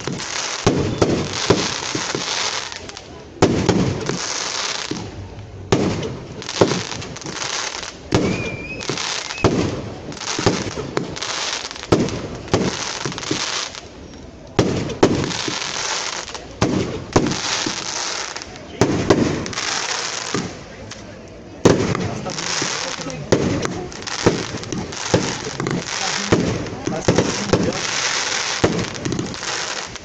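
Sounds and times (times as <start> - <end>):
firework bangs: 0.0 - 30.0
firework hiss: 0.0 - 30.0.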